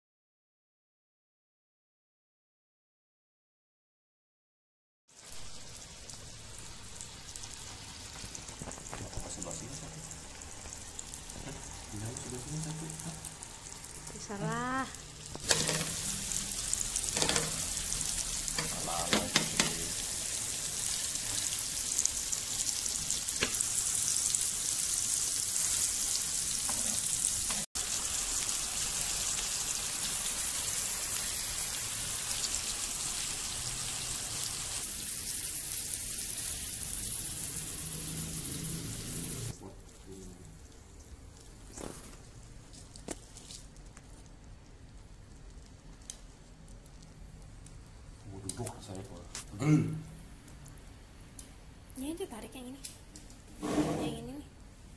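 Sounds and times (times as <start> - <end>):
steak sizzling on grill: 5.1 - 49.1.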